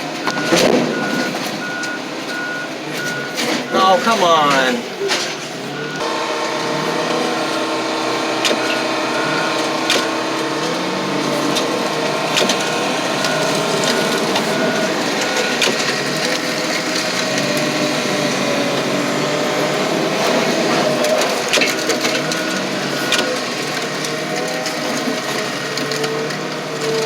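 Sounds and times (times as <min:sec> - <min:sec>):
car crusher running: 0:00.0 - 0:27.0.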